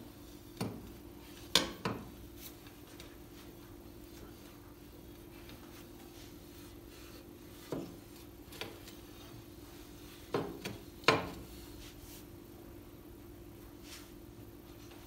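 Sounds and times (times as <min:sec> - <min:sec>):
cloth wiping glass door: 0:00.0 - 0:12.4.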